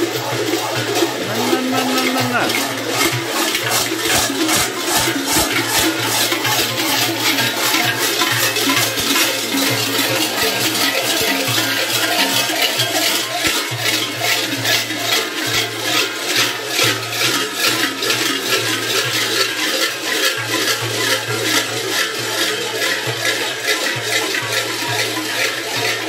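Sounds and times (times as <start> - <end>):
large bells clanging: 0.0 - 26.0.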